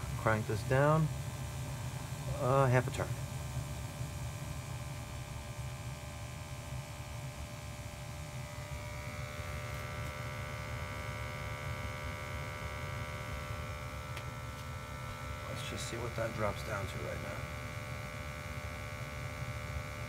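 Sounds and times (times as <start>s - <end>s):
boiler humming: 0.0s - 20.0s.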